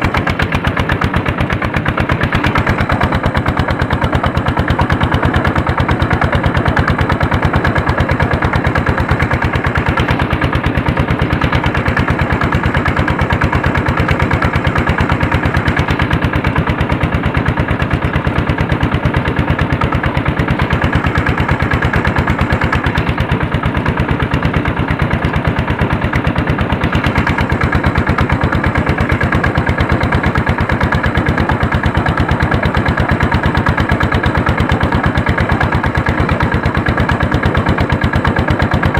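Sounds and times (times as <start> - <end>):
diesel tractor engine thumping: 0.0 - 38.9.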